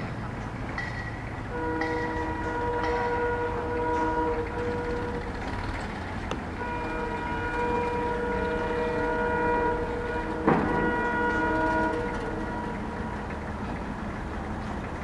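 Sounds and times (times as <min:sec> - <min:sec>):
train rumbling: 0:00.0 - 0:15.0
locomotive multi-tone horn: 0:01.4 - 0:14.6.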